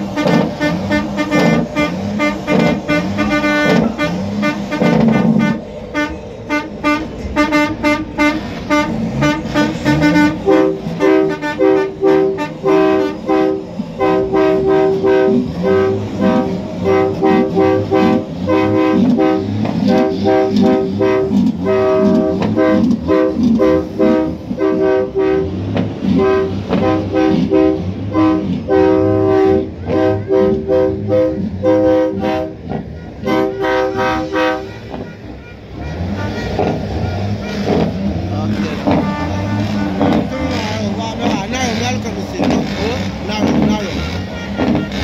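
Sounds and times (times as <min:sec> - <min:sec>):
truck air horn blasts: 0:00.0 - 0:45.0.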